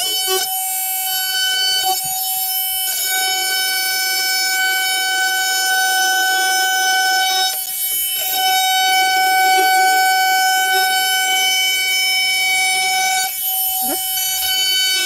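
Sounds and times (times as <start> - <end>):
power tool cutting drywall: 0.0 - 15.0.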